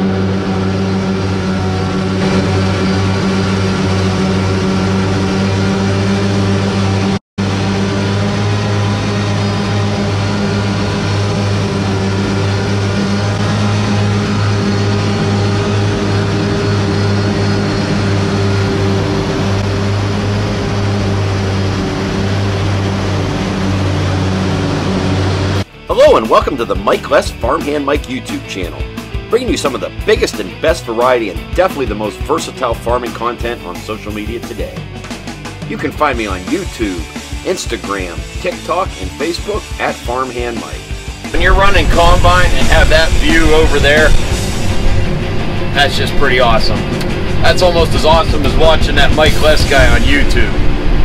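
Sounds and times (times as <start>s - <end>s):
diesel engine humming: 0.0s - 25.9s, 34.8s - 51.0s.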